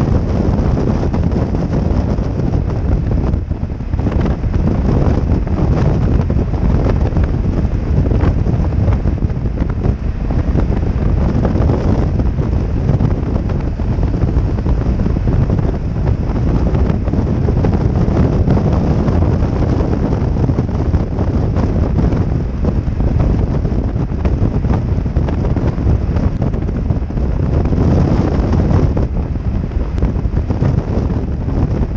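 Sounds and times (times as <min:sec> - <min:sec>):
heavy wind buffeting microphone: 0:00.0 - 0:31.9.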